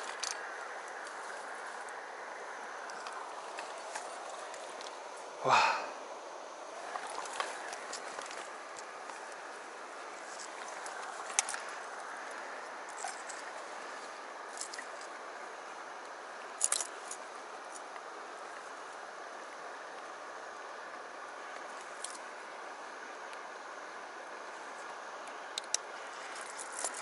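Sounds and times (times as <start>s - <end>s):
stream flowing: 0.0s - 27.0s.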